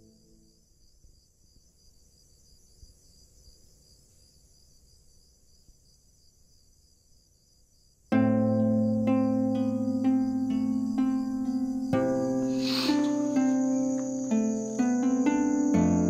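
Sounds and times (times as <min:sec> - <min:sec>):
faint cricket chirring: 0:00.0 - 0:16.0.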